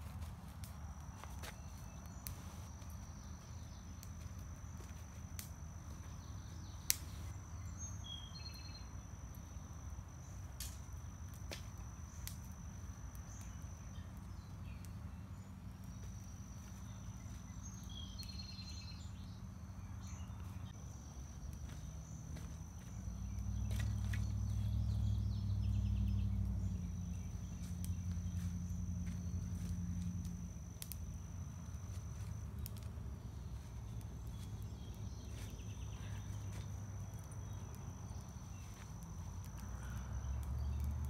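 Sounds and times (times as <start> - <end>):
campfire crackling and snapping: 0.0 - 41.0.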